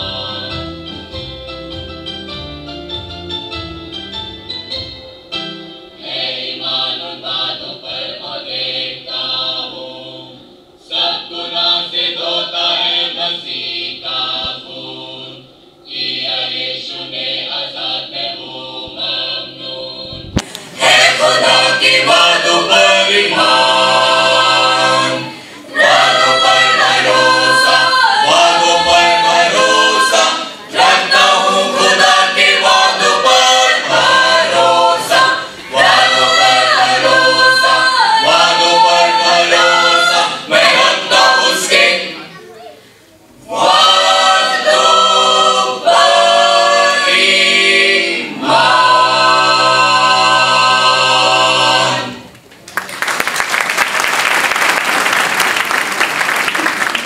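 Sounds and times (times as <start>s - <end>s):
choir singing a hymn: 0.0s - 1.3s, 5.4s - 42.4s, 43.2s - 52.3s.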